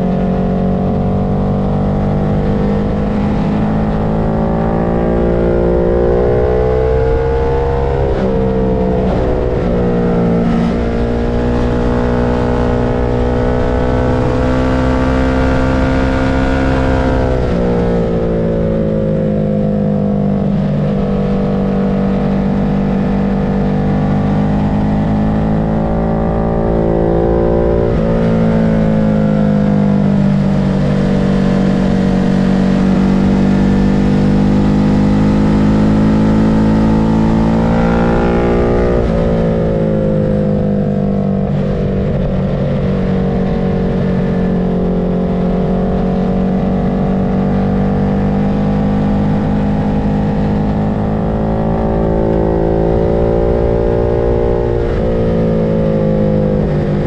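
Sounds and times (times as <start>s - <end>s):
vehicle engine running hard: 0.0s - 57.0s.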